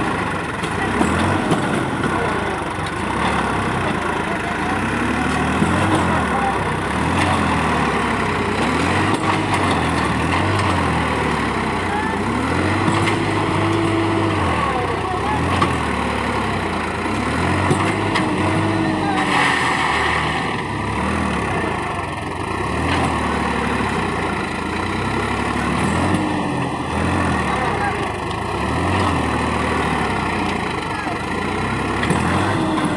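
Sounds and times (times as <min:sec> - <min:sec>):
tractor diesel engine revving: 0:00.0 - 0:32.9.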